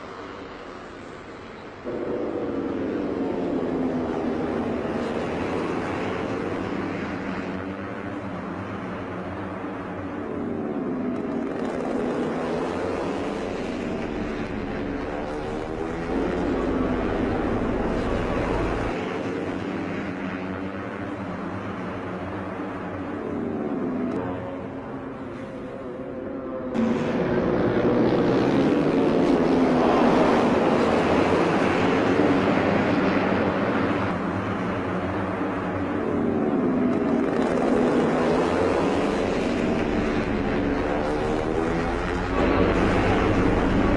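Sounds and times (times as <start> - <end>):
steady rush of noise: 0.0 - 20.3, 21.0 - 43.9
racing motorcycles passing at high revs: 1.9 - 25.2, 26.6 - 43.9.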